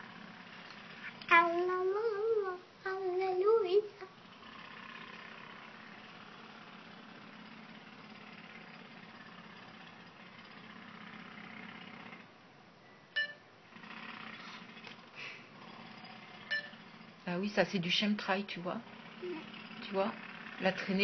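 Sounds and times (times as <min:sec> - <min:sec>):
engine hum: 0:00.0 - 0:21.0.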